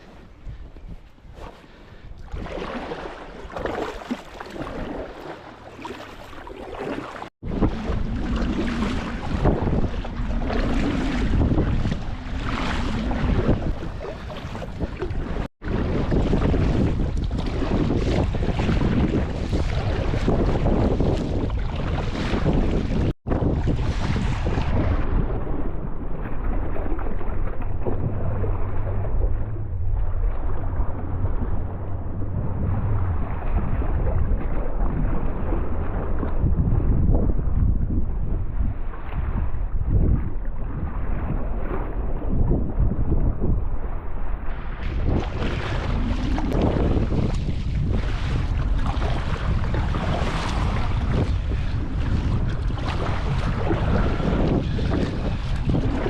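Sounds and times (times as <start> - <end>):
water splashing and lapping: 0.0 - 56.0
wind buffeting microphone: 0.0 - 56.0.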